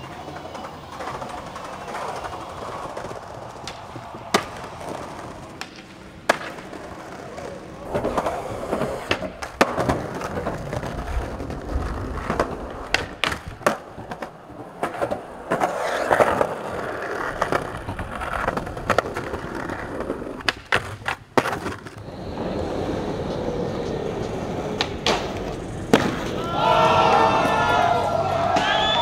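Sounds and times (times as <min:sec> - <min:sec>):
skateboard clacks: 0:00.0 - 0:29.0
skateboard wheels rumbling on concrete: 0:00.0 - 0:29.0.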